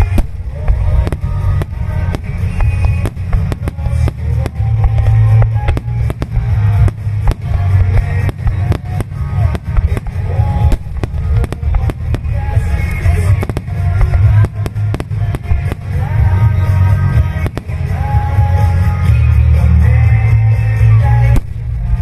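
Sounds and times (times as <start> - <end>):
firework shells bursting: 0.0 - 19.1
rock song with heavy bass: 0.0 - 22.0.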